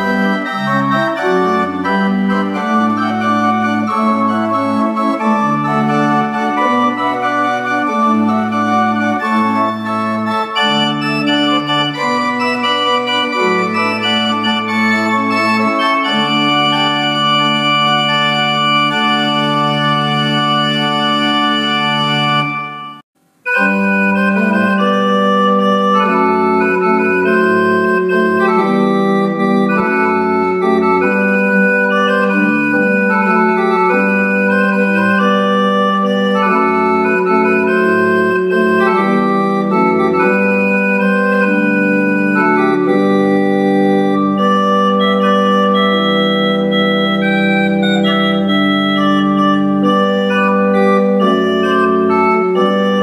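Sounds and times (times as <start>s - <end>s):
pipe organ playing chords: 0.0s - 53.0s.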